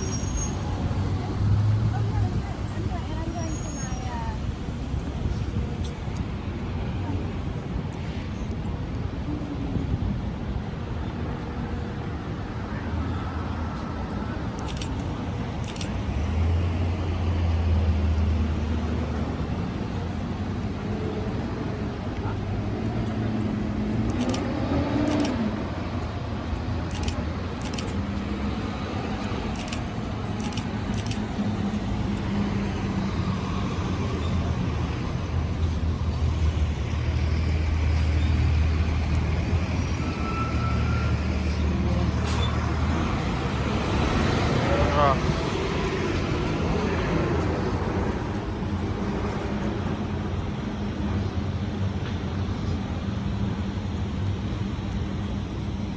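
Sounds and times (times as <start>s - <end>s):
vehicles passing rumble: 0.0s - 55.9s.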